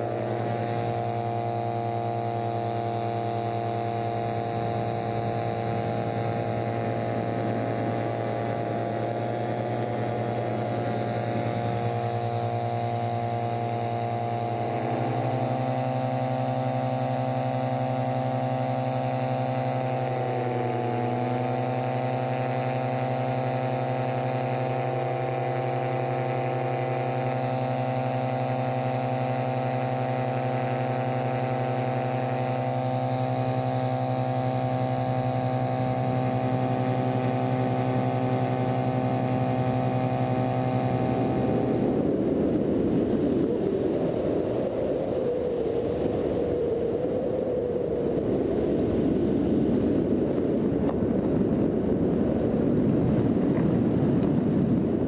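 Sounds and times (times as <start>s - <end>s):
propeller engine running: 0.0s - 55.0s.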